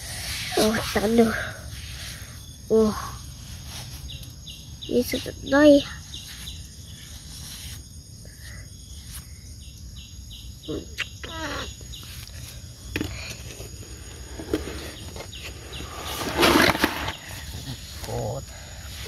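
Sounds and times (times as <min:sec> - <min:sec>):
insect chirping: 0:00.0 - 0:19.0.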